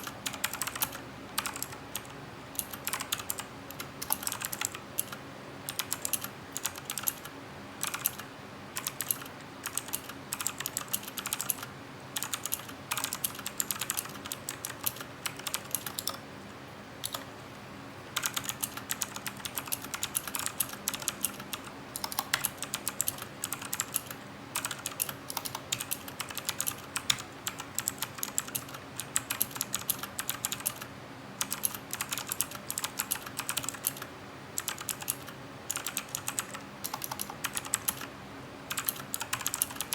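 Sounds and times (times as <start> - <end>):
mechanical keyboard typing: 0.0 - 16.2, 17.0 - 17.3, 18.2 - 38.1, 38.7 - 39.9.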